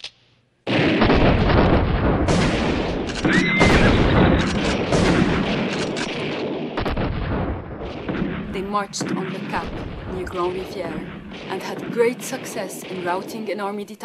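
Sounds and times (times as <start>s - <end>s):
cannon fire: 0.6s - 13.8s.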